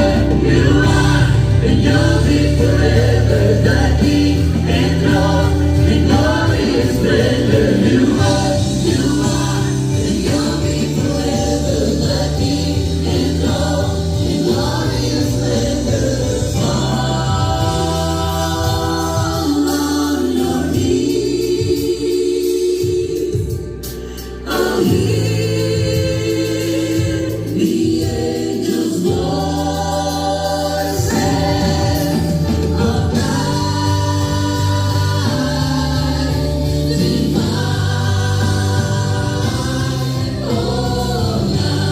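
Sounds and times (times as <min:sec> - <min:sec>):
choir singing gospel music: 0:00.0 - 0:41.9
instrumental backing: 0:00.0 - 0:41.9.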